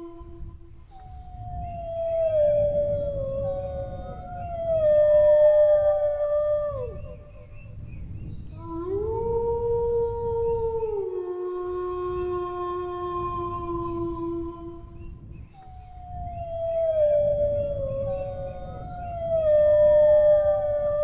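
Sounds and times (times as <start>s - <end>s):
dog howling: 1.5s - 7.5s, 8.6s - 14.9s, 16.0s - 21.0s.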